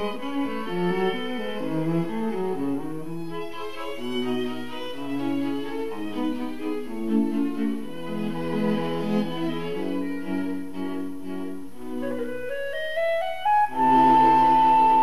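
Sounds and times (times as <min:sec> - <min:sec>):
bowed strings playing: 0:00.0 - 0:15.0.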